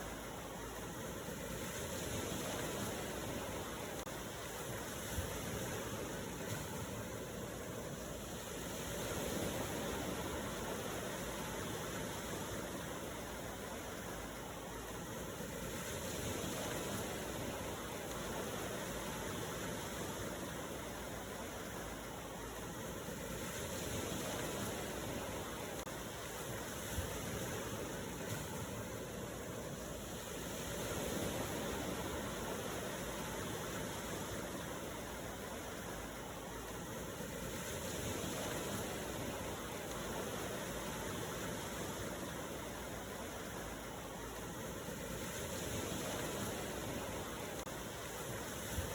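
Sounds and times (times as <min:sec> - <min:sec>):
ocean waves washing: 0:00.0 - 0:48.9.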